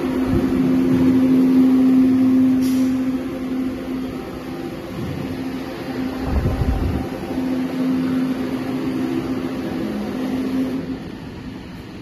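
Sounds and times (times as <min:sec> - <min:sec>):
industrial machine hum: 0:00.0 - 0:12.0.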